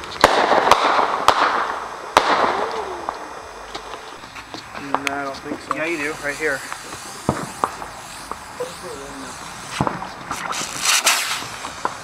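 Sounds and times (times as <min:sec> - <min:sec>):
firework pops and cracks: 0:00.0 - 0:05.9, 0:06.6 - 0:08.6, 0:09.6 - 0:12.0
sparks hissing: 0:00.0 - 0:12.0.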